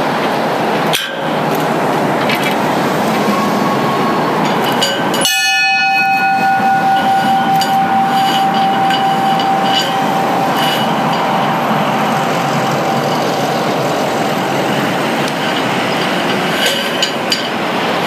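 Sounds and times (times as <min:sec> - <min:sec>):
steady rushing noise: 0:00.0 - 0:18.0
bell strike ringing: 0:03.1 - 0:17.6.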